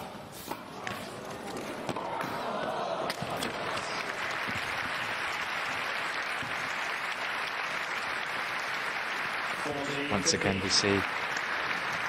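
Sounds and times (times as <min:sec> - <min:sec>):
crowd applauding: 0:02.2 - 0:12.0.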